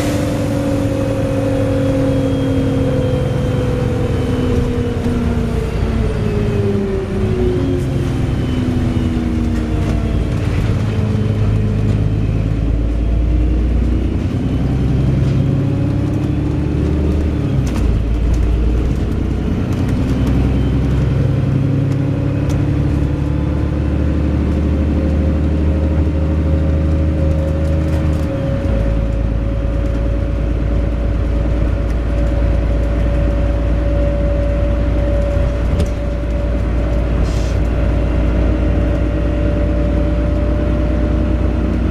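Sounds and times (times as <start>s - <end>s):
bus engine and gearbox running: 0.0s - 41.9s.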